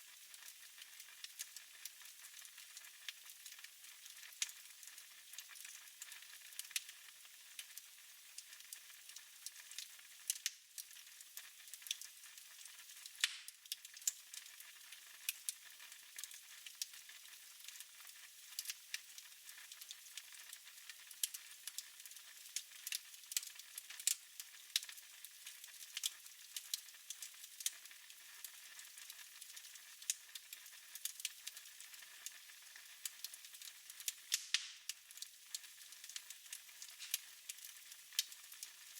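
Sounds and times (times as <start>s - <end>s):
wood fire crackling and popping: 0.3s - 6.9s, 8.4s - 38.9s.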